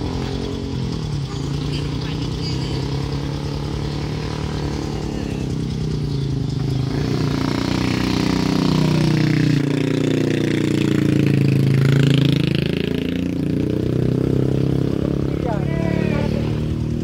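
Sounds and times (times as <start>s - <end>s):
car engine working uphill: 0.0s - 17.0s.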